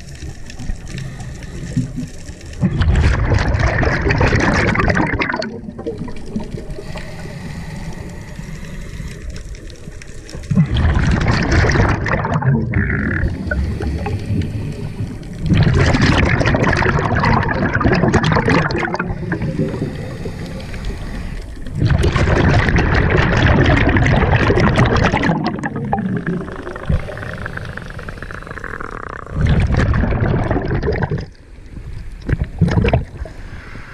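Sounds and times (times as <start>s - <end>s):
underwater air bubbling: 0.0s - 33.9s.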